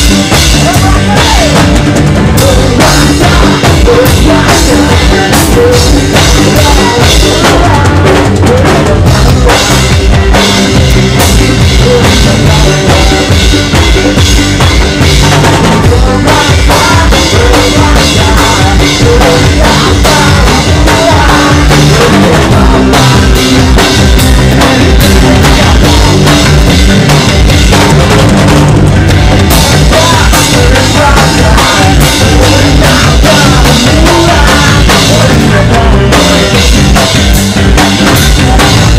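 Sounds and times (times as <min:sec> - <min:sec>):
reggae band playing: 0:00.0 - 0:38.9.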